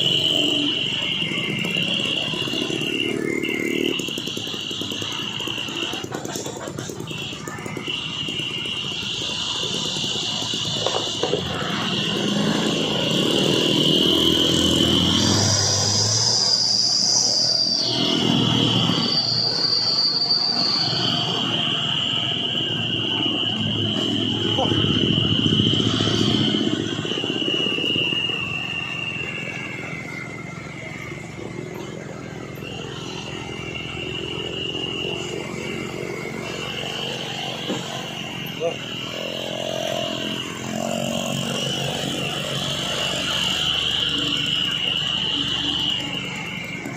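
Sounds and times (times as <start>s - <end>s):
heavy truck engine labouring: 0.0s - 46.9s
high thin whine: 0.0s - 46.9s
high-pitched insect-like drone: 0.0s - 46.9s.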